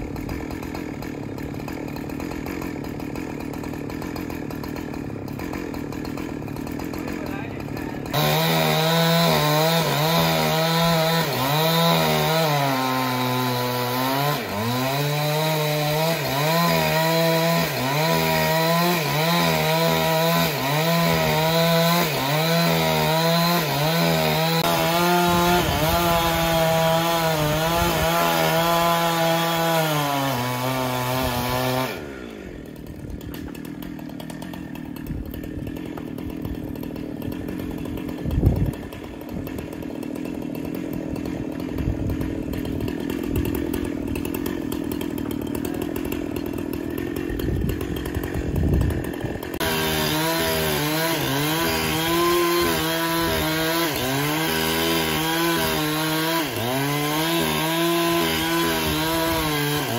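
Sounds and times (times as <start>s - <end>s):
power saw cutting wood: 0.0s - 59.9s.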